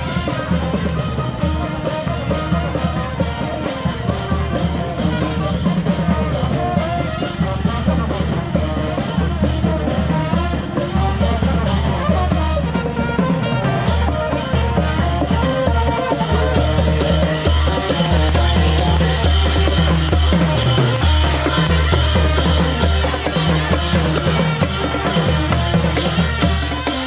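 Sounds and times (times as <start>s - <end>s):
upbeat music with drums and bass: 0.0s - 27.0s.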